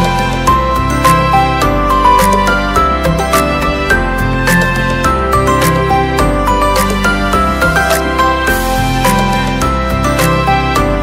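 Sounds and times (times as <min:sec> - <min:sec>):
gentle background music with beat: 0:00.0 - 0:11.0.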